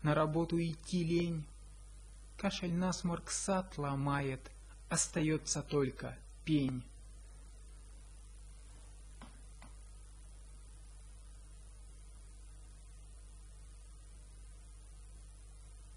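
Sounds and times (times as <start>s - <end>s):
mains hum with hiss: 0.0s - 15.9s.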